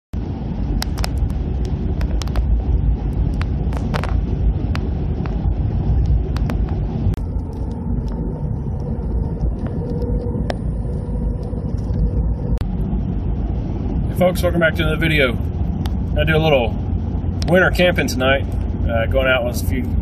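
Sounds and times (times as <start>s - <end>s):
car road and engine noise: 0.1s - 20.0s.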